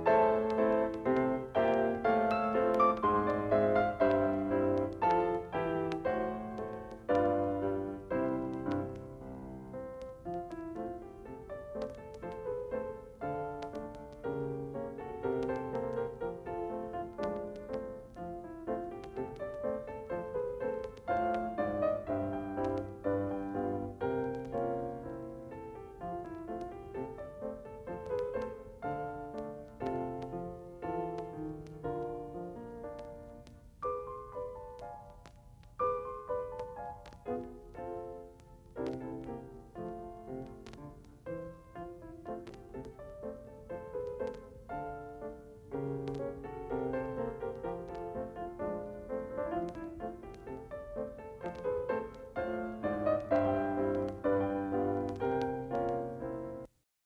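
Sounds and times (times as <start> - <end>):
solo piano music: 0.0 - 56.8.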